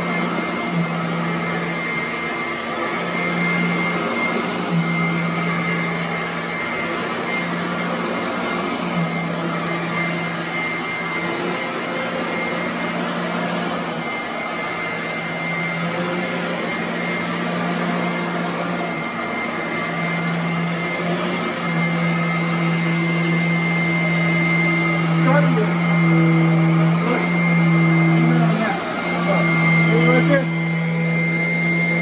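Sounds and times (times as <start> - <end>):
vacuum cleaner running on carpet: 0.0 - 32.0.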